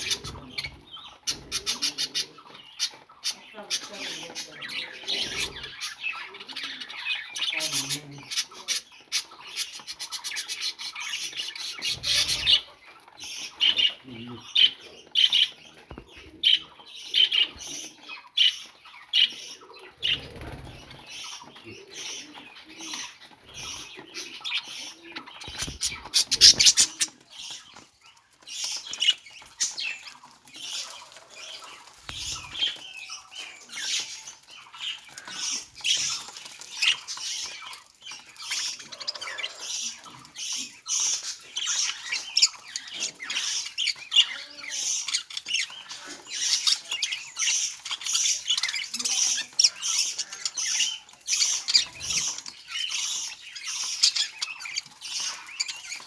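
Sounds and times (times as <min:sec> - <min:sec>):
budgerigar chattering and squawking: 0:00.0 - 0:15.6, 0:22.0 - 0:27.8, 0:28.5 - 0:56.0.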